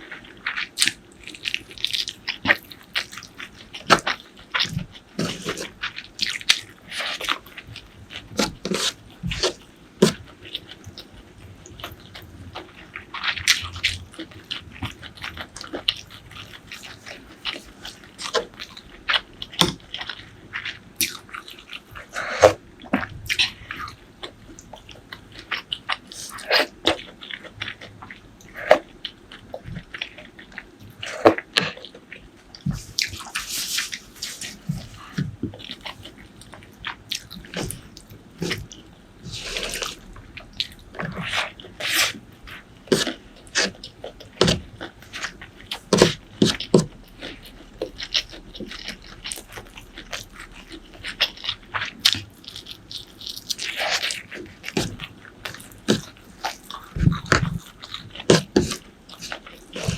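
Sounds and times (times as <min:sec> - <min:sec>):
chewing with wet mouth clicks: 0:00.0 - 0:59.9.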